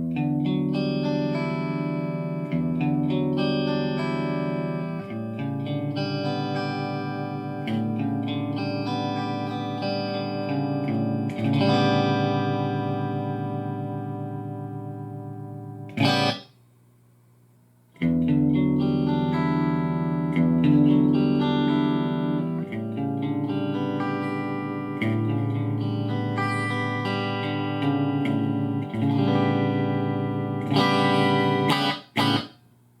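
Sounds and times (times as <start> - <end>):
overdriven electric guitar chords: 0.0 - 16.6, 18.0 - 32.7.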